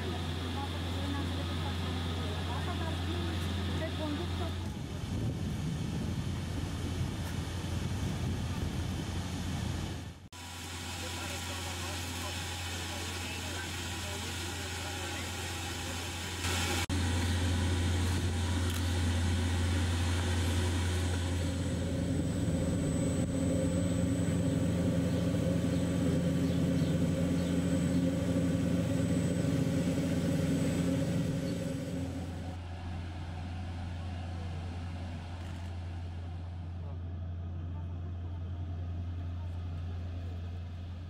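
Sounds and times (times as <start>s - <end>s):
industrial machinery hum: 0.0s - 41.0s.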